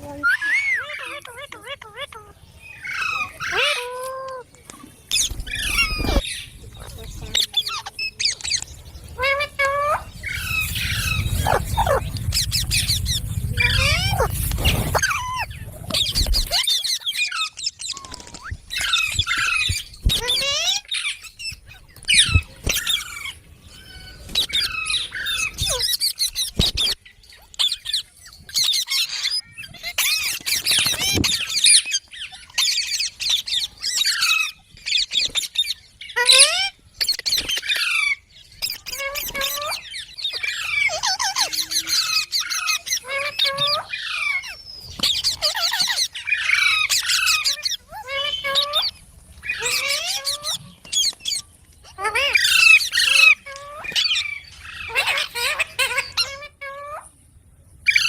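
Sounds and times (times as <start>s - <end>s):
parrots squawking and chattering: 0.0s - 57.2s.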